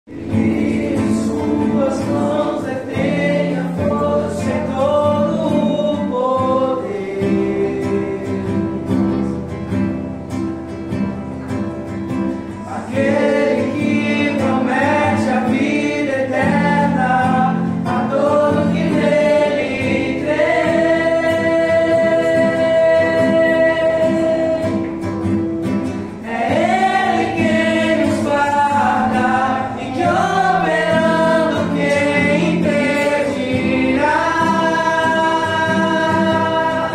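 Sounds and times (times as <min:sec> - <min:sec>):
voices singing gospel song: 0:00.1 - 0:09.6, 0:12.3 - 0:36.9
acoustic guitar: 0:00.1 - 0:36.9.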